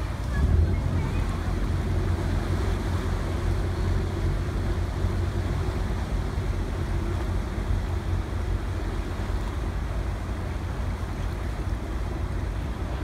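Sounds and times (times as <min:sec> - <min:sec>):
ferry diesel engines rumbling: 0:00.0 - 0:13.0
propeller wash churning water: 0:00.0 - 0:13.0.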